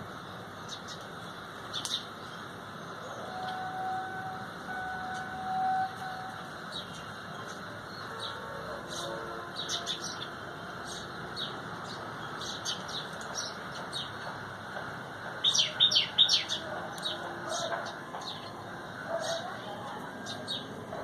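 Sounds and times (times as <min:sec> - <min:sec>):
steady background hum: 0:00.0 - 0:21.0
small birds chirping: 0:00.1 - 0:03.5, 0:06.5 - 0:21.0.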